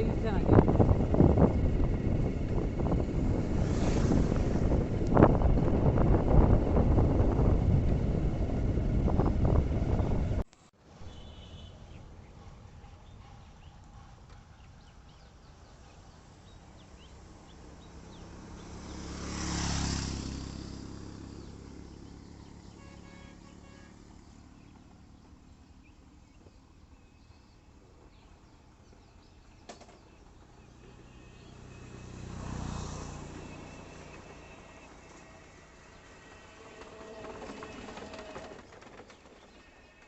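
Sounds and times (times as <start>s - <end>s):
vehicles passing on road: 0.0s - 12.7s, 13.4s - 39.5s.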